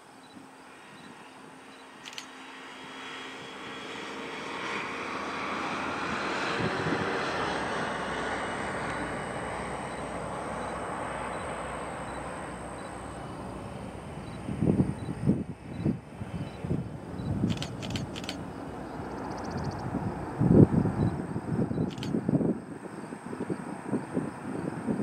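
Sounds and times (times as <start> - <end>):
jet airliner passing: 0.4 - 25.0.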